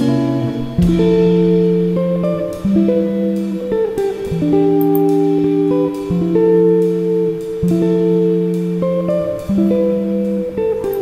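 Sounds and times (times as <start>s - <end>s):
slow melody of held notes: 0.0s - 11.0s.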